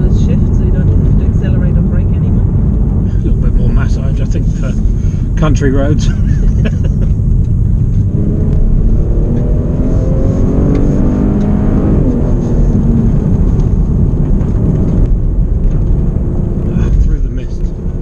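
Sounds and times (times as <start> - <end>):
car engine accelerating: 0.0 - 18.0
road and wind rumble: 0.0 - 18.0.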